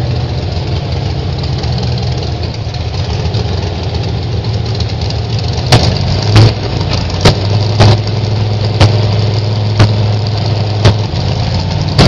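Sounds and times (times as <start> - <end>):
dragster engine idling: 0.0 - 12.0.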